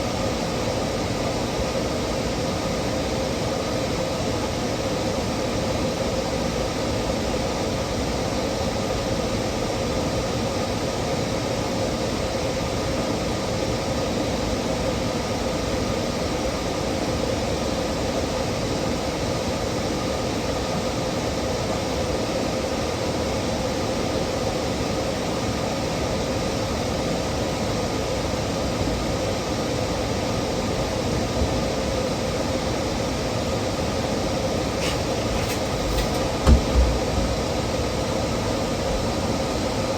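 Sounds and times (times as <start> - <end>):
mechanical hum and hiss: 0.0 - 39.9.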